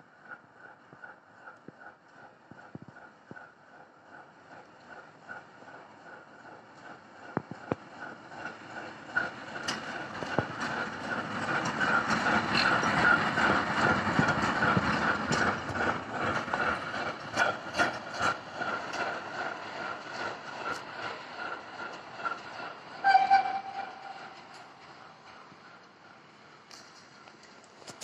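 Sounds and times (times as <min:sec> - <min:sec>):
diesel locomotive engine throbbing: 0:00.0 - 0:28.0
wheels clicking on rail joints: 0:00.0 - 0:28.0.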